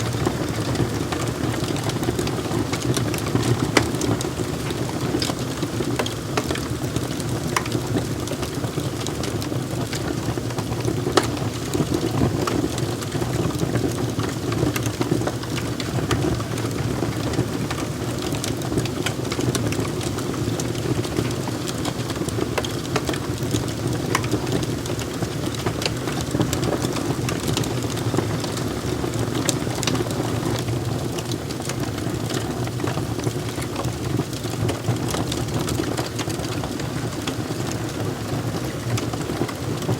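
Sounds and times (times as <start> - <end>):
low rumble of burning: 0.0 - 39.9
wood fire crackling: 0.0 - 39.9.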